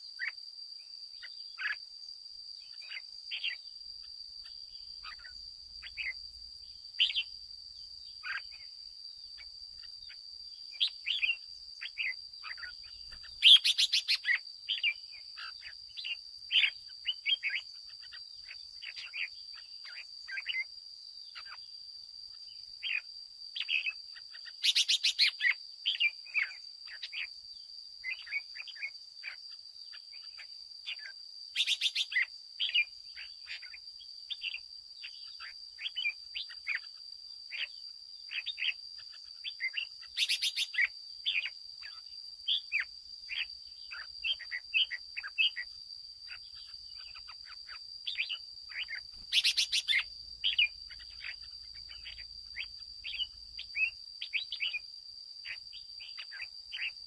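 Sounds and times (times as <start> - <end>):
bird chirping song: 0.0 - 57.0
high insect whine: 0.0 - 57.0.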